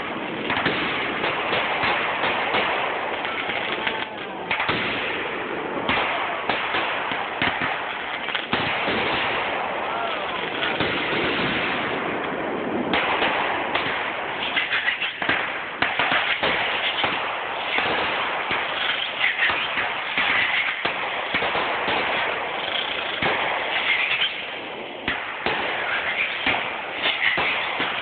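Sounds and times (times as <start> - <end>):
fireworks bangs: 0.0 - 28.0
fireworks crackling pops: 0.0 - 28.0.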